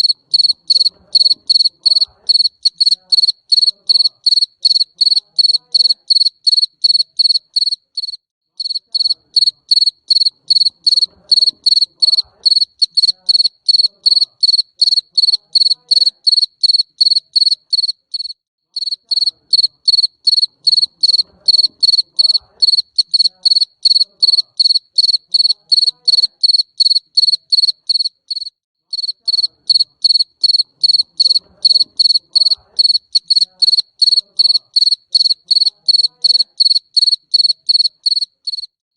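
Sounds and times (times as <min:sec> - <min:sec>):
cricket chirping: 0:00.0 - 0:38.7.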